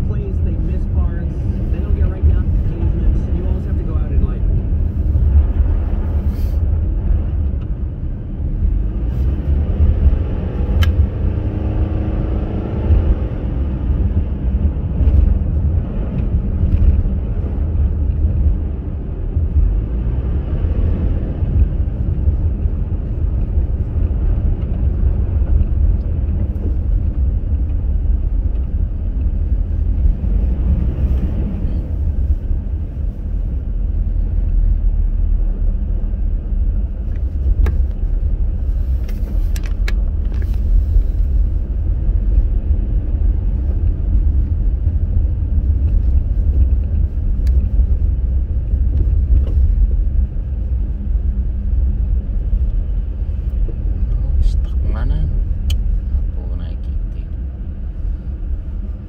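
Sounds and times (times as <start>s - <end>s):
car engine: 0.0s - 59.0s
road and tyre noise in car: 0.0s - 59.0s.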